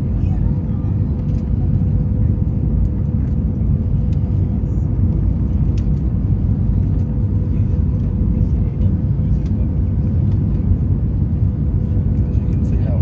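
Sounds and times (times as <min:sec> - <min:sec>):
airplane rumble in flight: 0:00.0 - 0:13.0
constant hum: 0:00.0 - 0:13.0.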